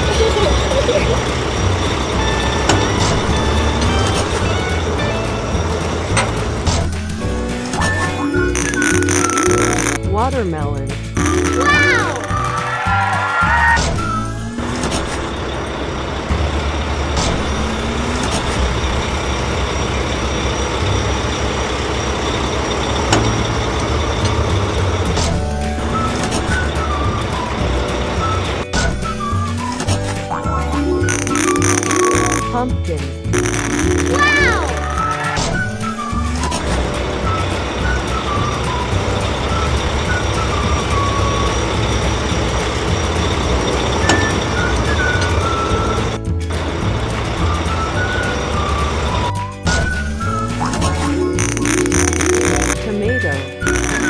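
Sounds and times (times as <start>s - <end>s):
cartoon vehicle engine running: 0.0s - 54.0s.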